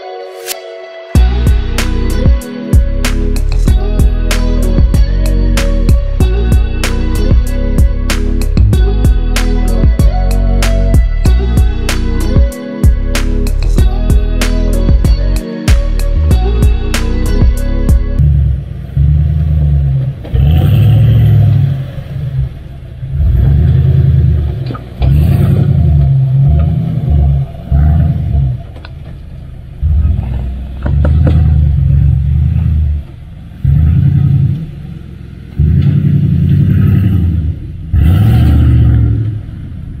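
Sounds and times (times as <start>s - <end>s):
van engine revving: 1.2s - 40.0s.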